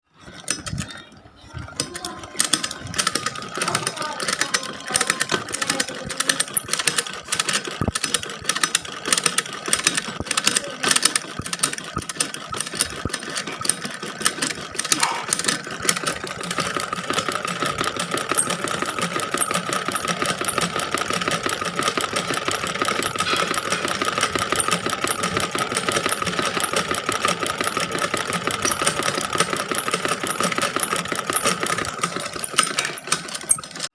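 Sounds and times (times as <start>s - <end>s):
sewing machine motor whine: 0.1s - 33.9s
sewing machine needle clatter: 0.1s - 33.9s.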